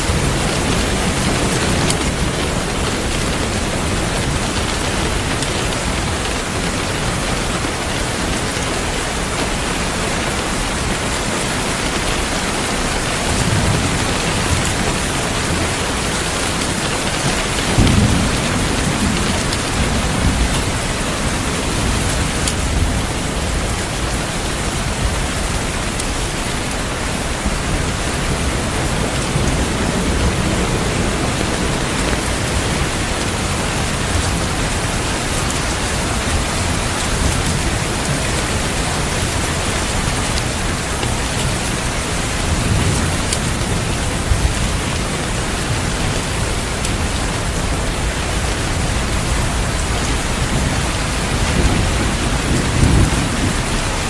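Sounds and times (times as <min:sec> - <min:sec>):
heavy rain falling: 0:00.0 - 0:54.0
thunder rumbling: 0:00.0 - 0:54.0.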